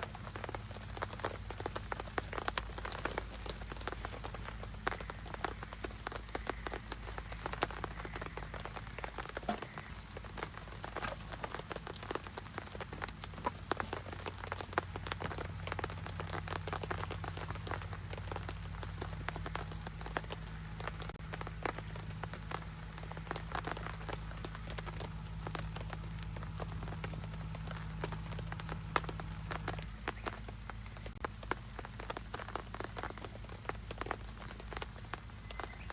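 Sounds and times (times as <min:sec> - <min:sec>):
faint low hum: 0:00.0 - 0:35.9
rain pattering: 0:00.0 - 0:35.9.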